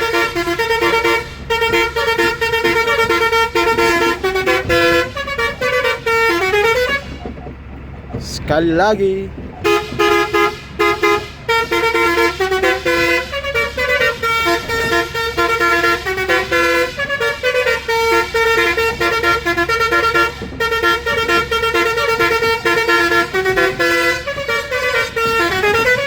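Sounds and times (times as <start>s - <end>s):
multi-tone horn melody: 0.0s - 26.0s.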